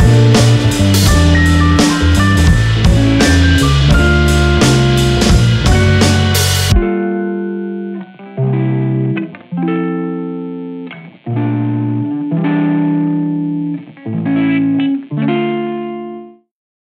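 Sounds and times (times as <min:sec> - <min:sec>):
background music held chords: 0:00.0 - 0:15.6.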